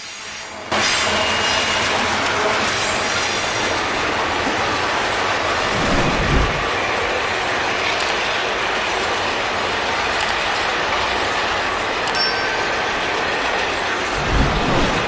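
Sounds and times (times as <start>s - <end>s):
freight train wheels rattling on rails: 0.0s - 15.0s
wheels click-clack over rail joints: 0.3s - 15.0s.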